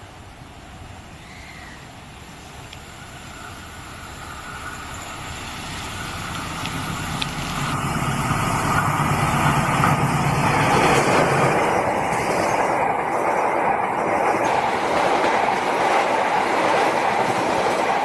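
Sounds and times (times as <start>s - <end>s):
diesel locomotive engine drone: 0.0s - 18.0s
train coaches rushing past: 1.2s - 18.0s.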